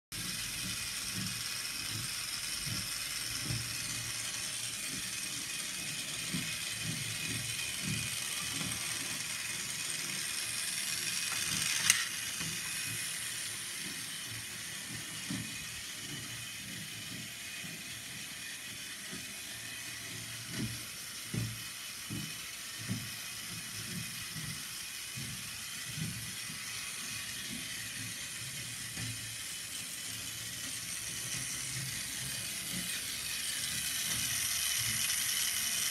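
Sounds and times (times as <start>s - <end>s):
toy train motor whirring: 0.2s - 35.9s.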